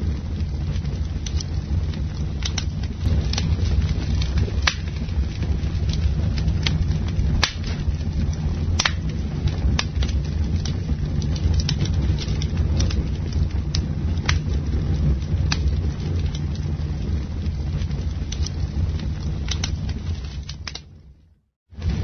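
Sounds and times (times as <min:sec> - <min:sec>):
campfire crackling: 0:00.0 - 0:21.2, 0:21.8 - 0:22.0
low fire rumble: 0:00.0 - 0:22.0.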